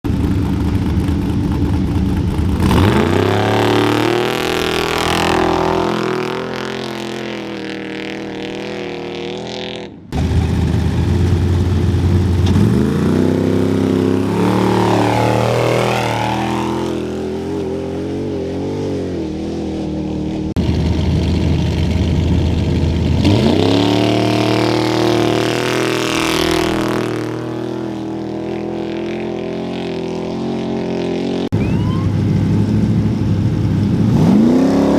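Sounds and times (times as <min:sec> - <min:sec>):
race vehicle engines revving: 0:00.0 - 0:09.6, 0:10.2 - 0:34.9.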